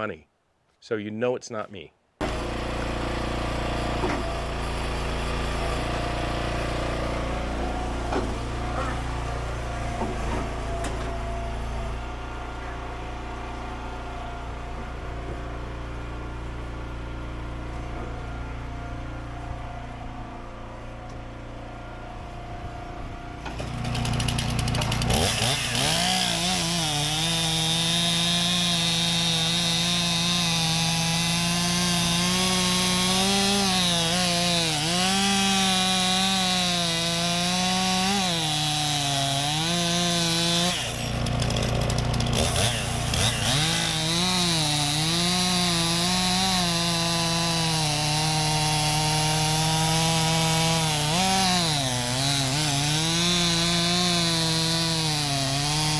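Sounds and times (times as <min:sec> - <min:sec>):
chainsaw cutting logs: 0:02.2 - 0:55.9.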